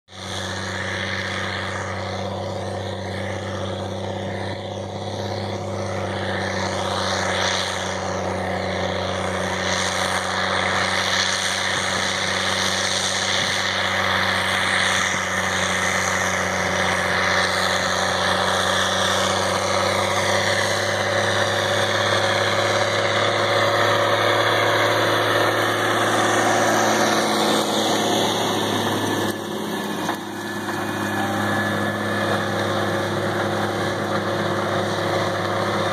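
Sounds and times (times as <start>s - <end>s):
tractor diesel engine under load: 0.0s - 35.9s
discs working the ground: 0.1s - 35.9s.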